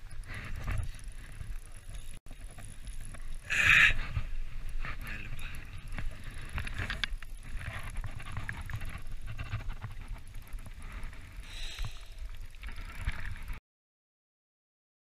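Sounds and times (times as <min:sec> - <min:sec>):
wind rumbling on microphone: 0:00.0 - 0:13.6.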